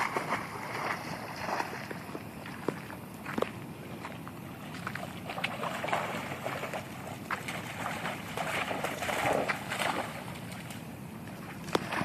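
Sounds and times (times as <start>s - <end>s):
dogs splashing in muddy water: 0.0s - 3.0s, 3.9s - 12.0s.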